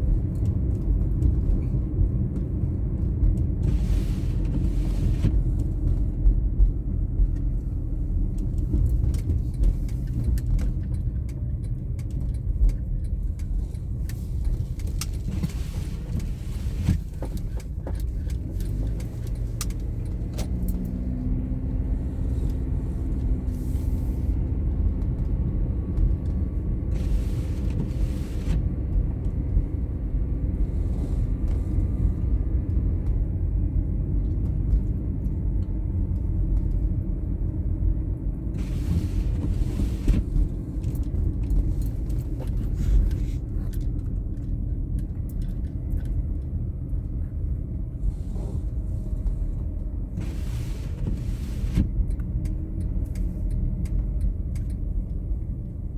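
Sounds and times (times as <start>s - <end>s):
car driving on snowy road: 0.0s - 55.9s.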